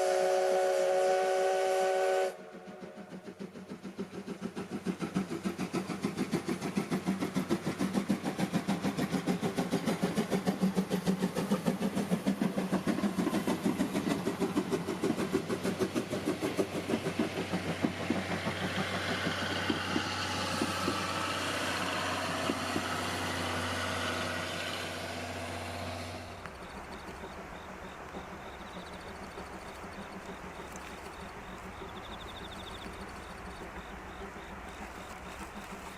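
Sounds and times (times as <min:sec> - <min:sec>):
steam locomotive chuffing: 0:00.0 - 0:35.9
rumble of passing carriages: 0:02.6 - 0:35.9.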